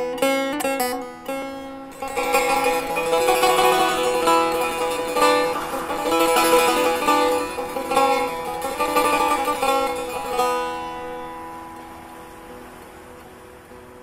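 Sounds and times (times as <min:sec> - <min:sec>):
plucked lute: 0:00.0 - 0:14.0.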